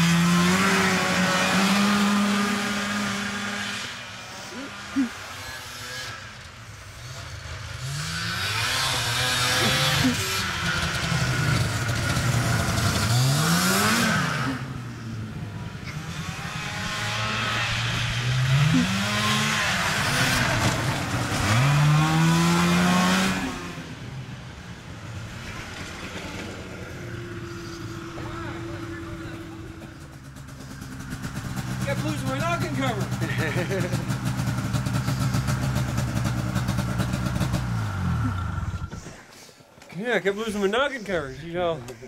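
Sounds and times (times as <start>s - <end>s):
snowmobile engine revving: 0.0s - 39.1s, 40.3s - 42.0s.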